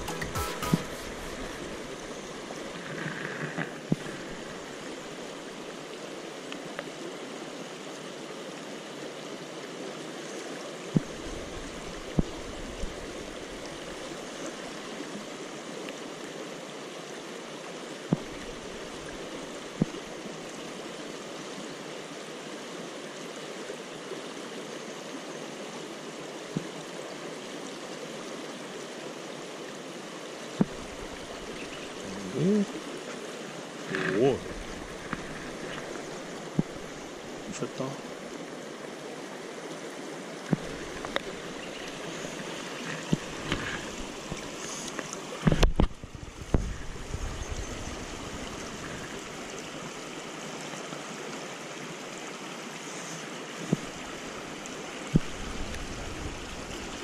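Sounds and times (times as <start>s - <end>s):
river rapids over stones: 0.0s - 57.0s.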